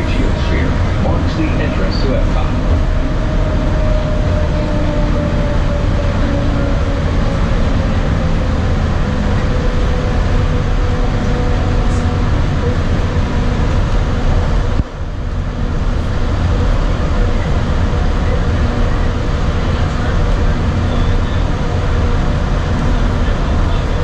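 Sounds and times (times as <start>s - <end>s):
monorail running rumble: 0.0s - 24.0s.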